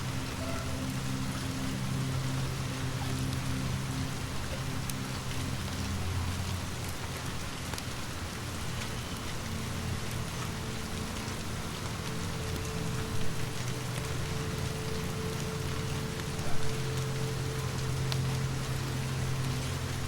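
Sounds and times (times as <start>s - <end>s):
low steady drone: 0.0s - 20.0s
steady rain falling: 0.0s - 20.0s
wood fire crackles: 0.0s - 20.0s.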